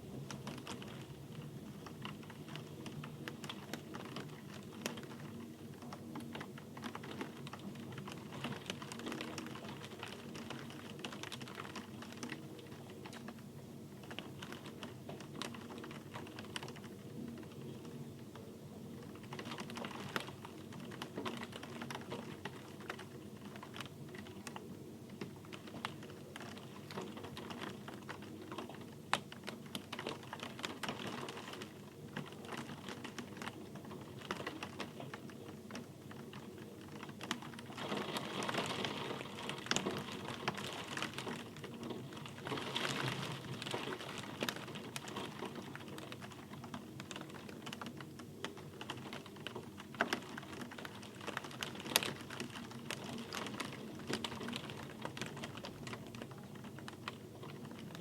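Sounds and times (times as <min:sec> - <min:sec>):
raindrops tapping on hard surface: 0:00.1 - 0:13.4, 0:19.1 - 0:58.0.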